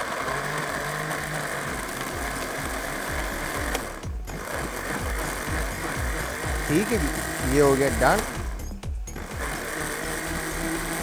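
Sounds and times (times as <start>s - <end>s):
electric blender running: 0.0s - 11.0s.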